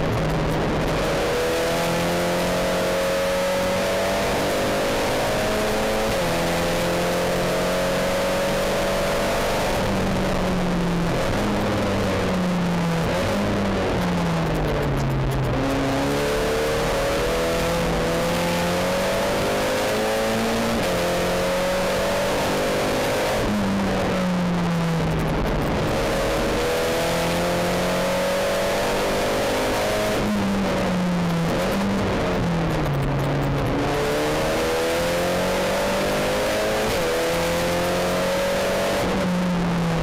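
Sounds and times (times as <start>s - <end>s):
race car engine accelerating: 0.0s - 40.0s.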